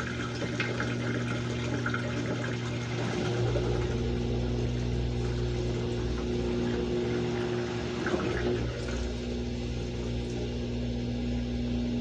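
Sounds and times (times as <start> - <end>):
water running: 0.0 - 11.0
washing machine hum: 0.0 - 12.0.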